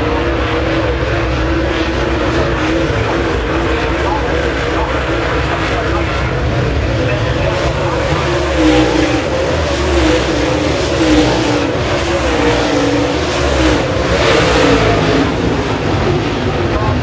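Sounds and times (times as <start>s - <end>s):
race car engines at full throttle: 0.0s - 17.0s
race car passing close: 0.0s - 17.0s.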